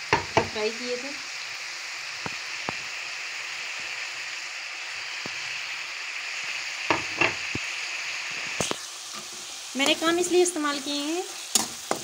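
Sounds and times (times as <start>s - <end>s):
food sizzling in a metal pan: 0.0s - 12.0s.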